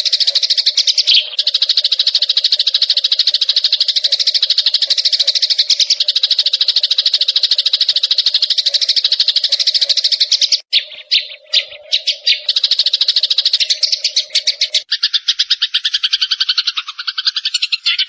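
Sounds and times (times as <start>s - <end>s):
songbird chattering trill: 0.0s - 18.0s.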